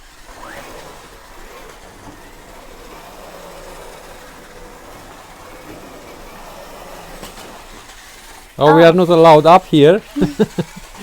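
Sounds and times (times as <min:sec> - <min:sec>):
toy car wheels rolling: 0:00.0 - 0:11.0.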